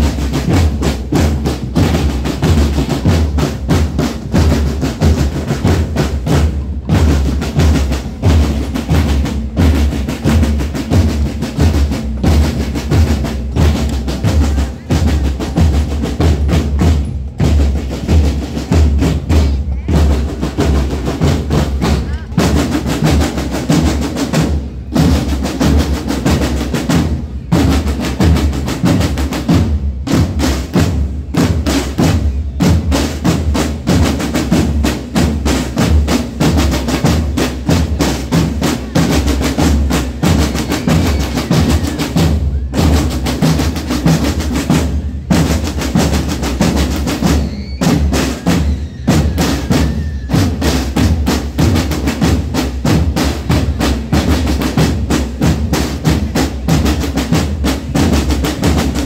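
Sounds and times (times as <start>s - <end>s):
marching drums playing: 0.0s - 59.0s.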